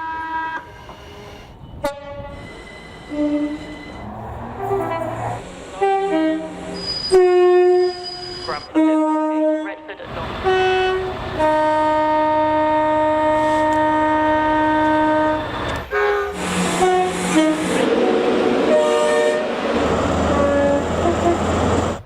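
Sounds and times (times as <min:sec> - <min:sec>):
train horn: 0:00.0 - 0:04.0, 0:04.6 - 0:19.6, 0:20.2 - 0:21.6
moving train rumble: 0:00.0 - 0:22.0.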